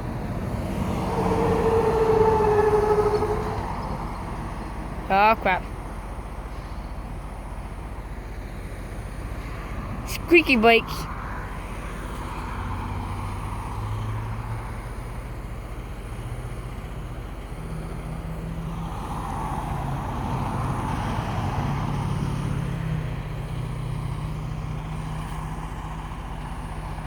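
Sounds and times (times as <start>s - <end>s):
truck diesel engine running: 0.0s - 12.4s, 14.4s - 27.0s
road noise: 0.0s - 27.0s.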